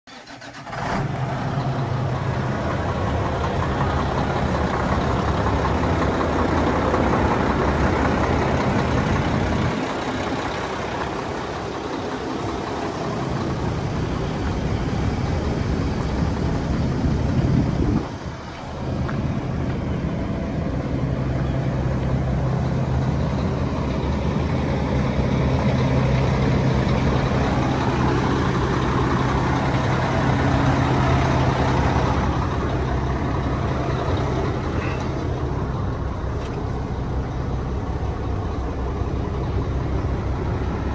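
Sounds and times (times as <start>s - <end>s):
diesel truck engine idling: 0.1s - 40.9s.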